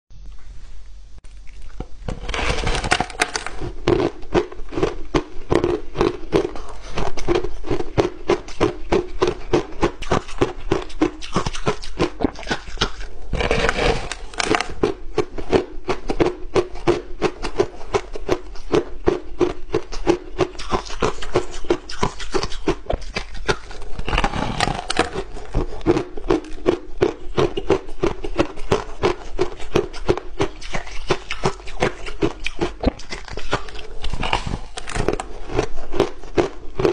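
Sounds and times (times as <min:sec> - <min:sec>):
crushed ice being chewed: 0:01.3 - 0:36.9.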